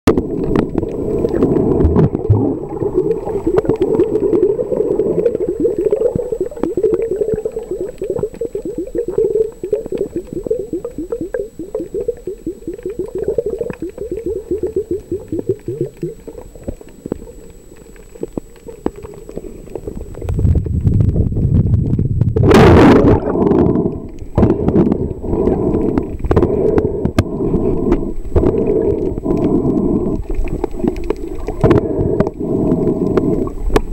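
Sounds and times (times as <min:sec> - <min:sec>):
faint high whine: 0:00.1 - 0:33.9
underwater gurgling water: 0:00.1 - 0:33.9.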